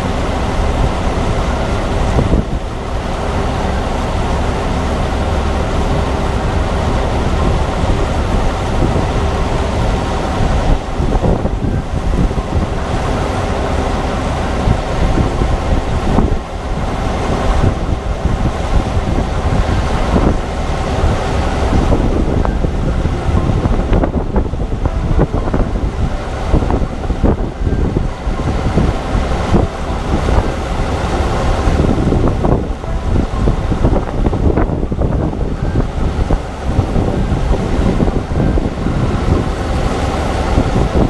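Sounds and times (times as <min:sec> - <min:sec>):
heavy machinery engine rumble: 0:00.0 - 0:41.0
wind buffeting microphone: 0:00.0 - 0:41.0.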